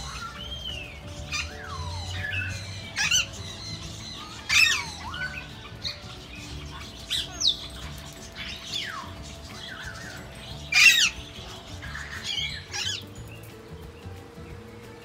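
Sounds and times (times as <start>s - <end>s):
parakeets squawking: 0.0s - 14.2s.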